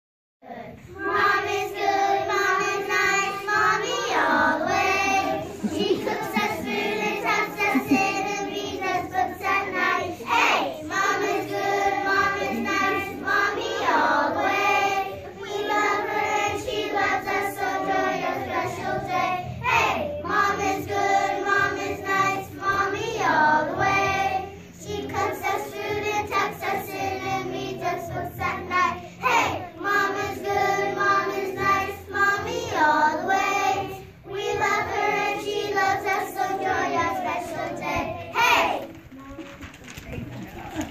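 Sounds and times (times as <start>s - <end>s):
children singing together: 0.5s - 38.9s.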